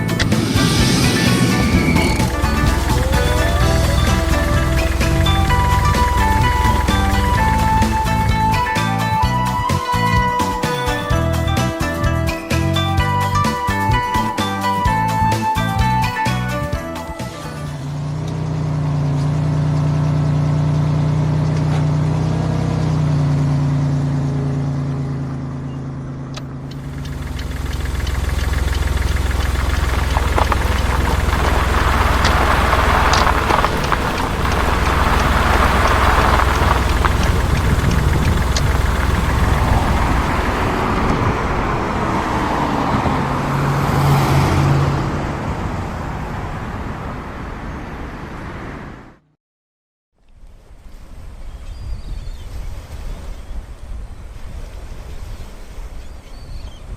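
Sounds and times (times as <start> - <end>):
truck engine: 0.0 - 47.0.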